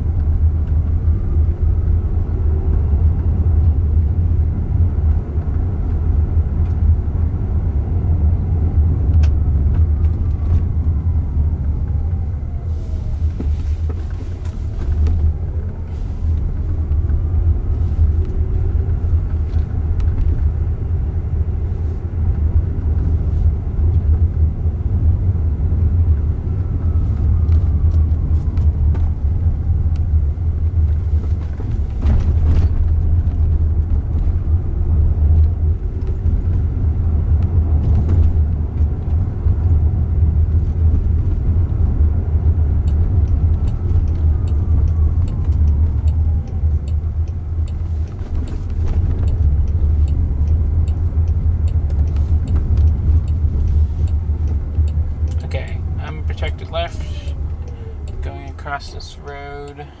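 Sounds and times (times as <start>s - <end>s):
turn signal ticking: 0.0s - 32.0s, 32.7s - 60.0s
road and tyre rumble in car: 0.0s - 60.0s.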